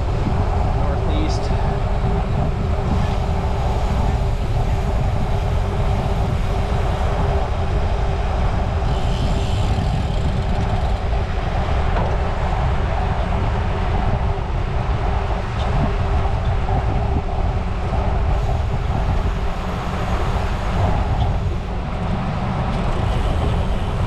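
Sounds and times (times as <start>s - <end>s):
constant low hum: 0.0s - 24.0s
wind and road noise: 0.0s - 24.0s.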